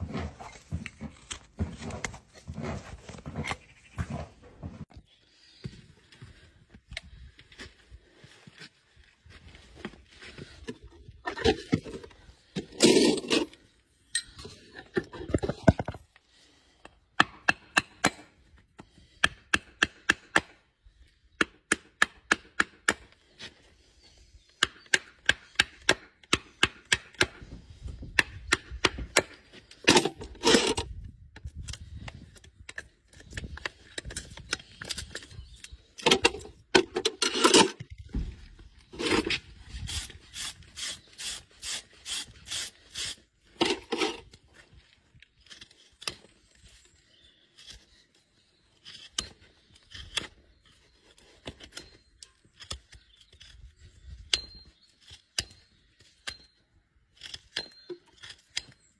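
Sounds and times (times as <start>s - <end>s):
scraping and prying on hoof: 0.0s - 5.8s, 9.7s - 16.2s, 21.4s - 58.9s.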